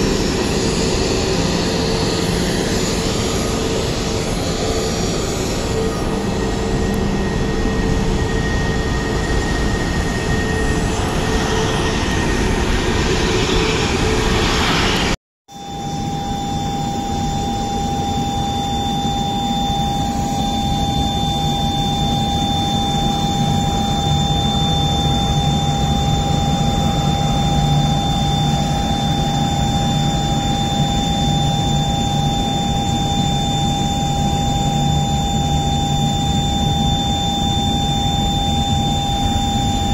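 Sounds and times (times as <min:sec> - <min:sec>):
high whine: 0:00.0 - 0:39.9
jet engines rushing: 0:00.0 - 0:39.9.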